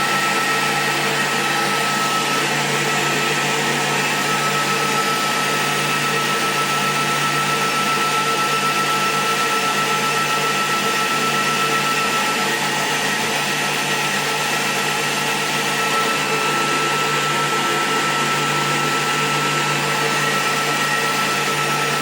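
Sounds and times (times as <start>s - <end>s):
machine whirring with high whine: 0.0s - 22.0s.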